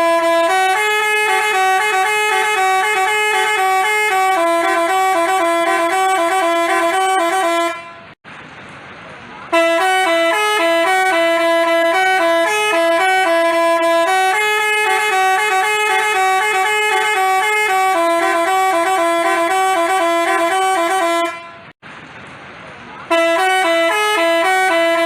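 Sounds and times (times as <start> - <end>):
bus horn playing a tune: 0.0 - 8.2, 9.5 - 21.8, 23.1 - 25.0.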